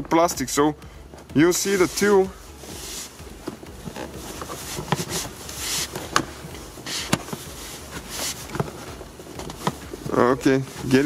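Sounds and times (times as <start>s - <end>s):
rustling handling noise: 0.0s - 11.0s.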